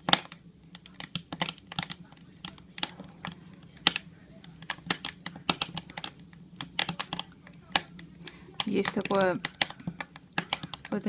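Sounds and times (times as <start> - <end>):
firewood crackling and popping: 0.0 - 11.0.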